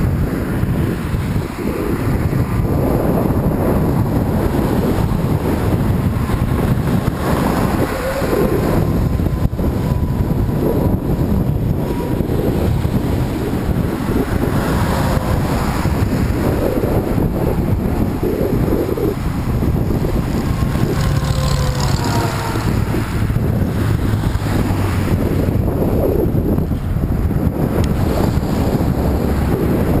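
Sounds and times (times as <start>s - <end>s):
road traffic passing: 0.0s - 30.0s
wind buffeting microphone: 0.0s - 30.0s.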